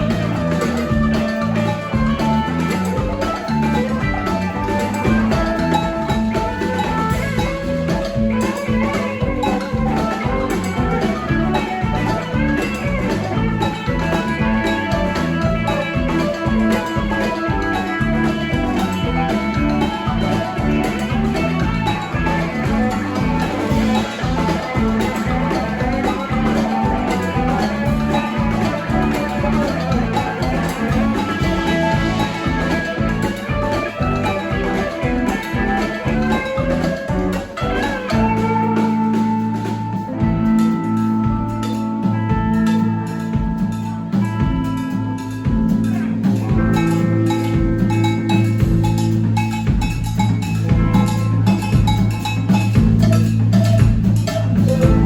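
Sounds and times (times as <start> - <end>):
guitar: 0.0 - 55.0
live band instrumental: 0.0 - 55.0.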